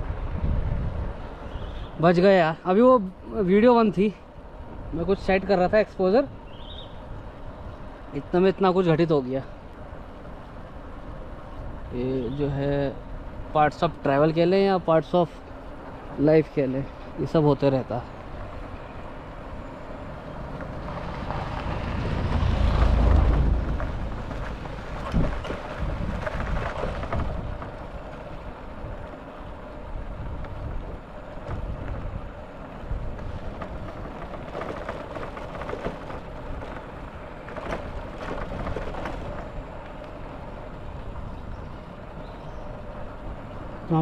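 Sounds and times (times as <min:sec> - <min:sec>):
vehicle rumbling along road: 0:00.0 - 0:44.0.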